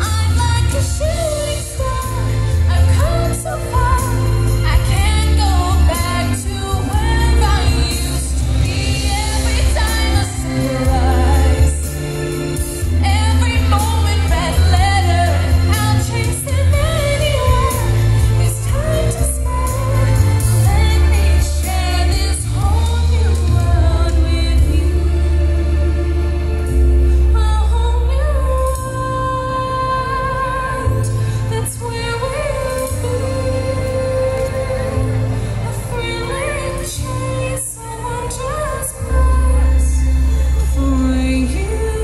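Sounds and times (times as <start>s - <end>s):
music with heavy bass: 0.0s - 42.0s
woman singing into microphone: 0.0s - 42.0s.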